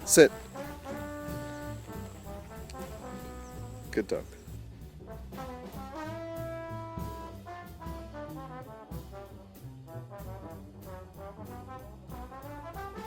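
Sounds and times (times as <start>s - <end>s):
bass and drums: 0.0s - 13.0s
jazz trombone melody: 0.0s - 13.0s.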